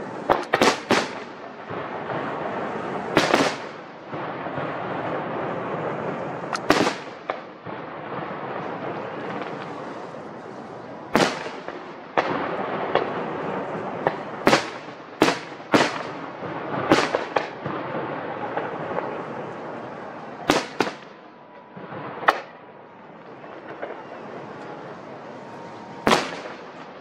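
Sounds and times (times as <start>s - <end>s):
continuous rumble: 0.0s - 27.0s
fireworks bangs: 0.0s - 27.0s.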